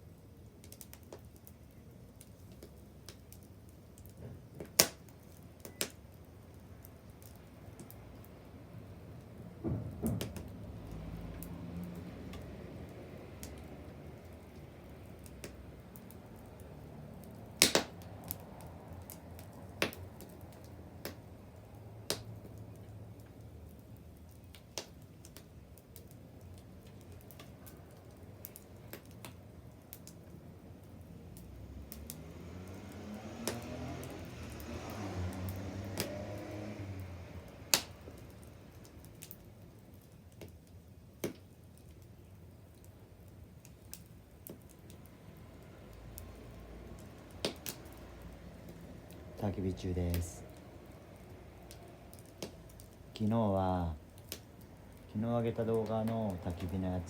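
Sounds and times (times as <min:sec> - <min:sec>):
wood bonfire crackling: 0:00.0 - 0:57.0.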